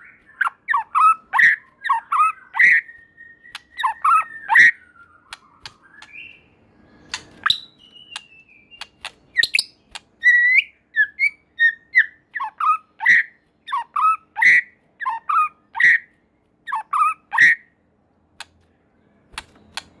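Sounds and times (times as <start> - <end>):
bird singing whistles and clicks: 0.0 - 17.6.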